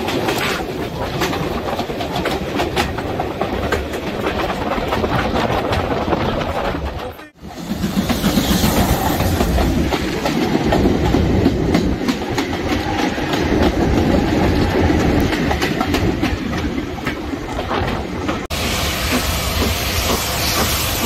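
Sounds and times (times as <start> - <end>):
goods train rattling past: 0.0 - 21.0
wheels clicking over rail joints: 0.0 - 21.0.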